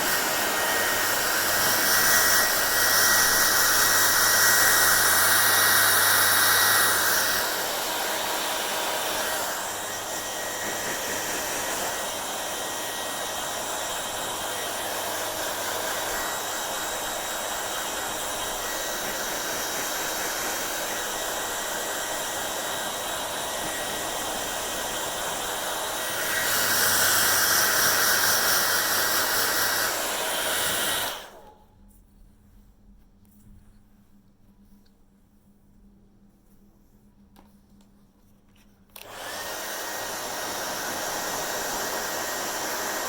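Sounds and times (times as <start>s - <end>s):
hair dryer running: 0.0s - 31.6s, 39.0s - 43.0s.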